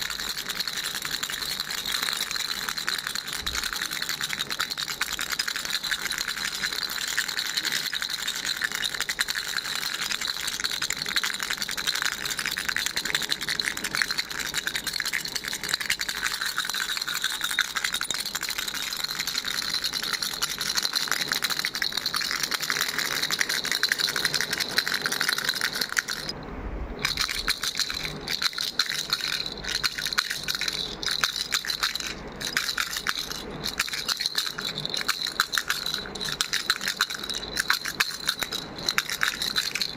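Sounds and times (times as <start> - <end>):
baby rattle shaking: 0.0 - 26.4, 27.0 - 39.9.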